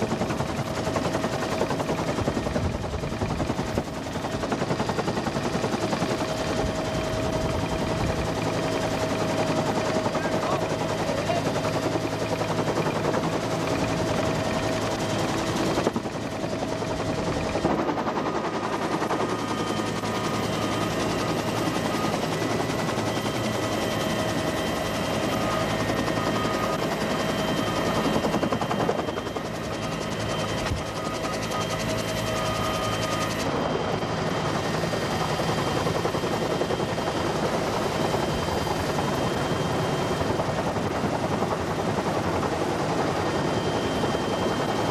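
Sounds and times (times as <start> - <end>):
turbine whine: 0.0 - 44.9.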